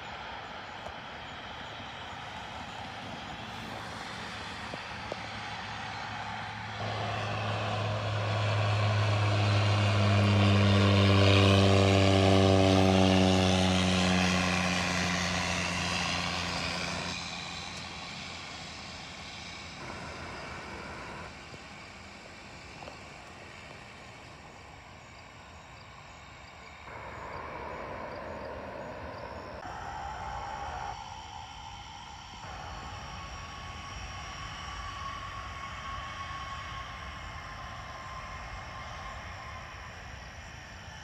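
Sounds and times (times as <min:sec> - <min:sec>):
turboprop plane passing overhead: 0:00.0 - 0:41.0.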